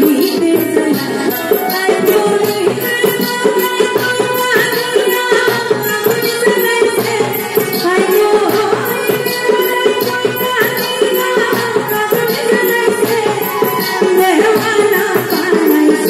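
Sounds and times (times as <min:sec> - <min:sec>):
live band with tabla and harmonium: 0:00.0 - 0:16.0
woman singing into a microphone: 0:00.0 - 0:16.0.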